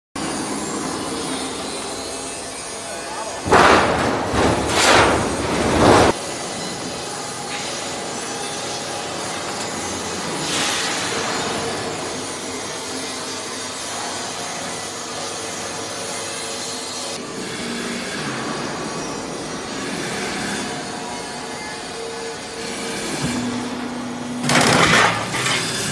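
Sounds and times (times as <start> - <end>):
roll forming machine grinding: 0.2 - 16.1, 18.0 - 25.9.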